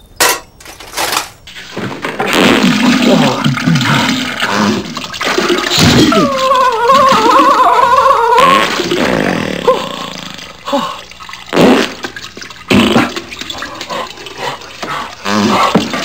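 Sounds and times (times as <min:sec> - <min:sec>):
toilet flushing with gurgling: 0:01.5 - 0:16.0.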